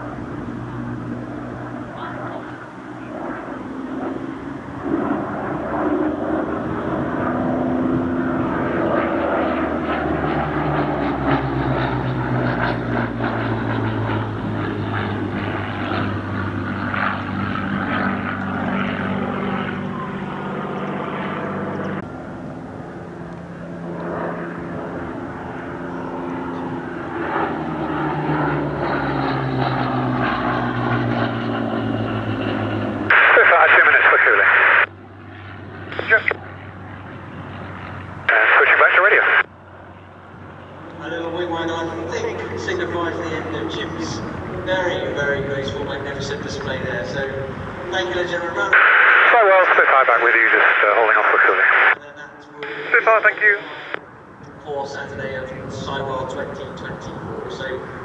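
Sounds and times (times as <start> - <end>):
propeller aircraft engine flying past: 0.0 - 58.0.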